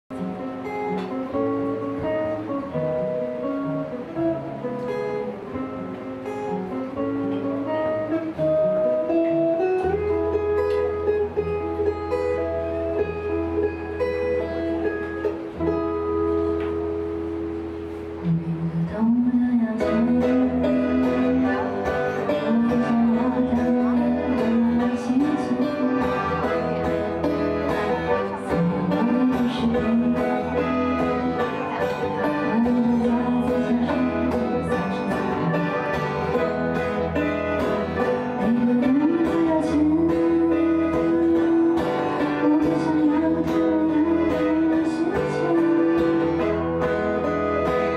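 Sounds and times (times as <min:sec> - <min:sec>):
acoustic guitar picked notes: 0:00.1 - 0:47.9.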